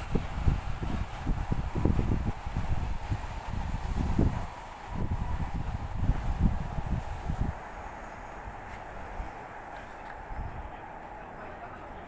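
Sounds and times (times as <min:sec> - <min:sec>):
city background hum: 0:00.0 - 0:12.0
distant traffic: 0:00.0 - 0:12.0.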